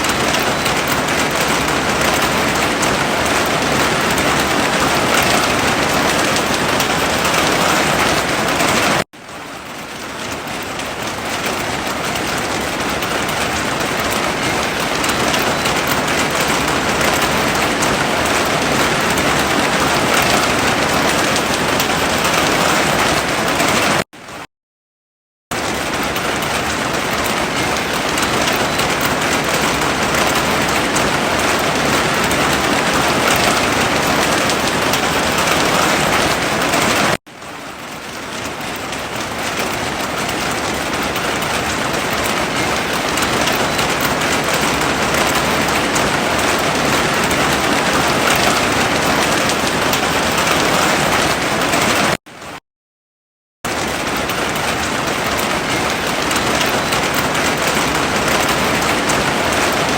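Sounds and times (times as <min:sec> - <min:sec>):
heavy rain: 0:00.0 - 0:24.0, 0:25.5 - 0:52.6, 0:53.7 - 0:59.9.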